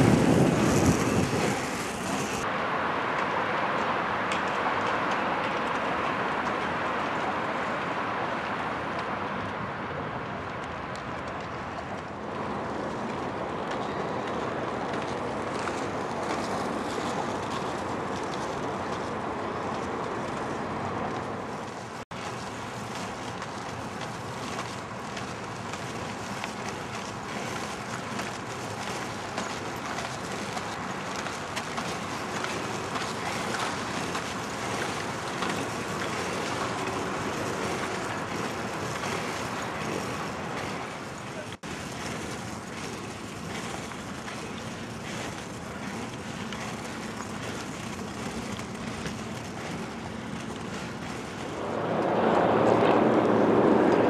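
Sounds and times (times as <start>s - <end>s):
wind on microphone: 0.0s - 2.5s, 3.8s - 54.0s
skate wheels rolling on asphalt: 0.0s - 54.0s.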